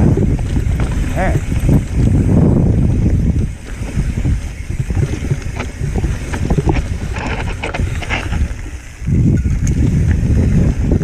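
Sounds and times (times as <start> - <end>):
bike tyres rattling on stones: 0.0 - 11.0
wind on microphone: 0.0 - 11.0.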